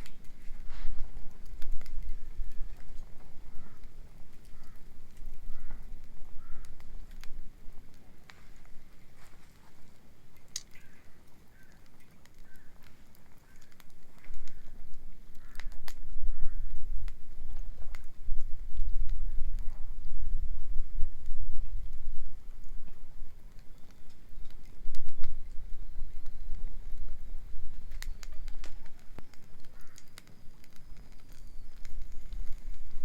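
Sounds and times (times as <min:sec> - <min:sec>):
bonfire crackling: 0:00.0 - 0:33.0
burning wood popping: 0:00.0 - 0:33.0.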